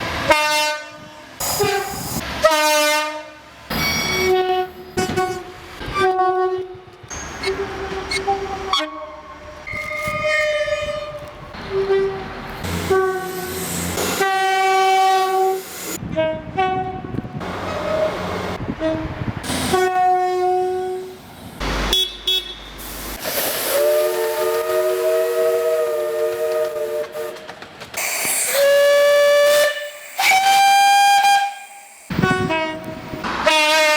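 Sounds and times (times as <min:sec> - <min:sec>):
train horn blasts: 0:00.2 - 0:18.1, 0:18.7 - 0:21.2, 0:23.7 - 0:27.6, 0:28.4 - 0:33.9.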